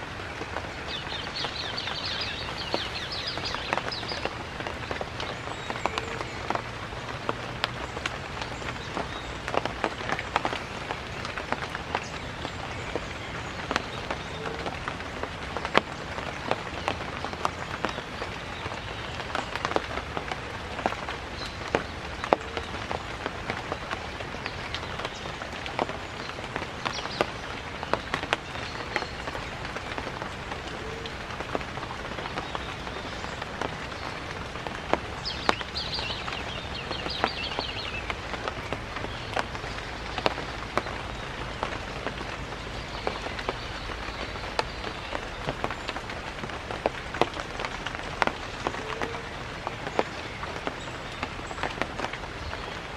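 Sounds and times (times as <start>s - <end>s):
rain falling on foliage: 0.0s - 52.9s.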